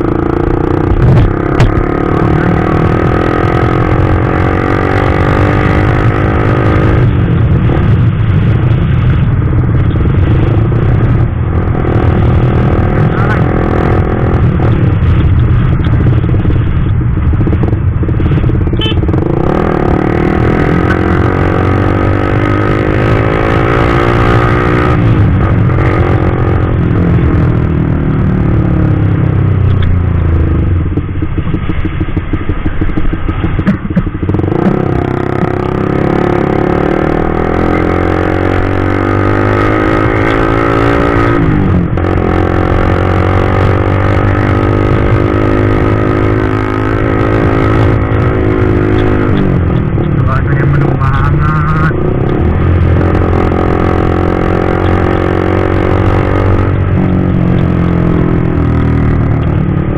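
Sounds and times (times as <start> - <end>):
motorcycle engine shifting gears: 0.0 - 59.9.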